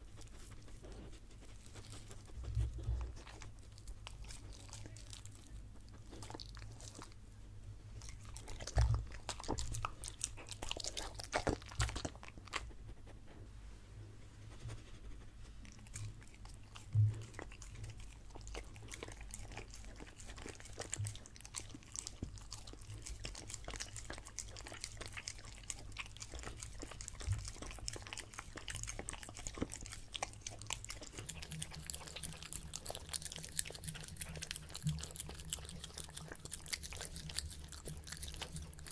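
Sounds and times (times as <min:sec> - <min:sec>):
dog licking and smacking: 0:00.0 - 0:07.2, 0:07.9 - 0:13.1, 0:15.5 - 0:38.9
dog chewing and eating: 0:00.0 - 0:13.5, 0:14.4 - 0:38.9.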